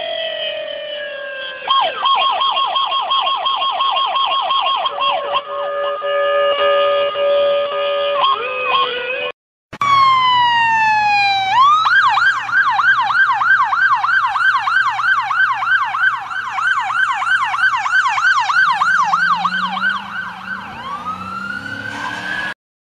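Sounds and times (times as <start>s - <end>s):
police siren wailing and yelping: 0.0s - 6.8s, 8.1s - 22.6s.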